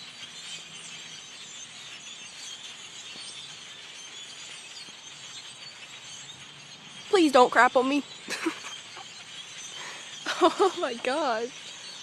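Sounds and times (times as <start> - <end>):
flock of blackbirds chirping: 0.0 - 12.0.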